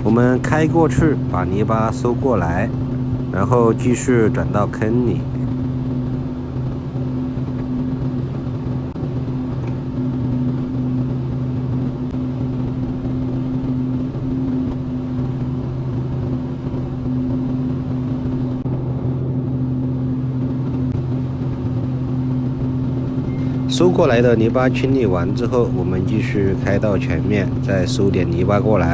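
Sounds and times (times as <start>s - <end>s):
excavator engine running: 0.0s - 28.9s.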